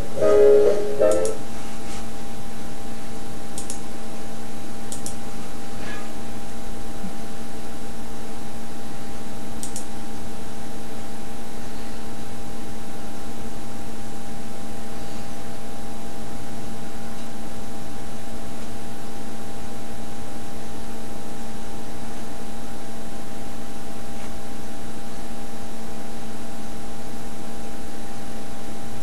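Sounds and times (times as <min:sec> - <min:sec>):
machine or fan humming: 0:00.0 - 0:29.0.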